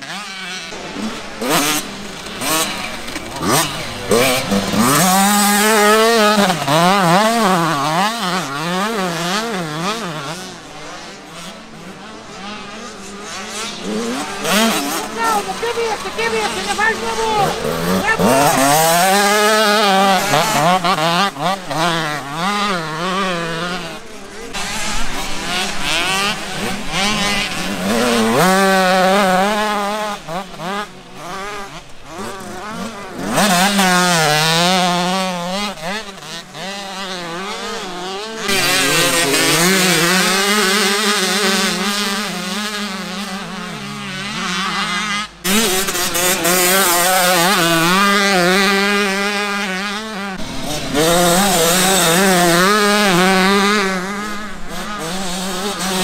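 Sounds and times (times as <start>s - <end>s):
two-stroke dirt bike engines revving: 0.0s - 56.0s.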